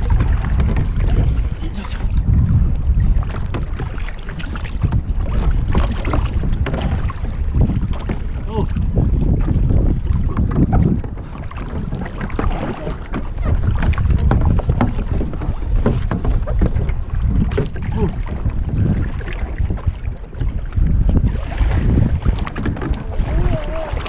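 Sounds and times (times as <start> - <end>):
water splashing against kayak: 0.0 - 24.0
wind buffeting microphone: 0.0 - 24.0.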